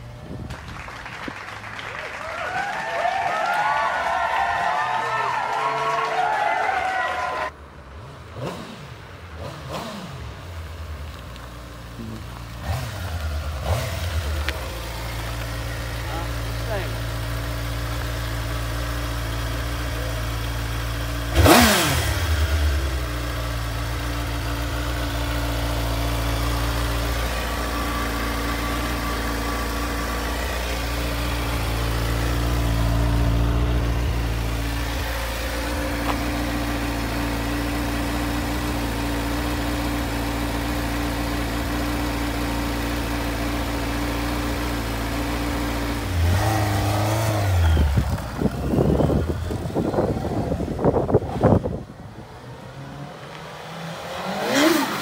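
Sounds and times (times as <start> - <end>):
motorcycle engine passing by: 6.5 - 10.8, 12.0 - 55.0
low engine hum: 7.5 - 55.0.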